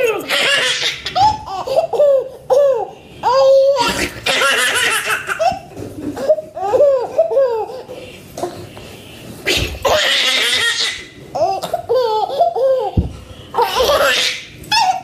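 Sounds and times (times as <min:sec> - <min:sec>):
baby laughing: 0:00.0 - 0:07.9, 0:09.5 - 0:13.0, 0:13.6 - 0:15.0.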